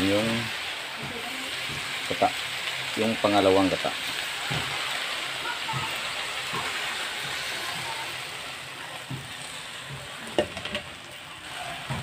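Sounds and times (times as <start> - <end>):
hot pan sizzling: 0.0 - 12.0.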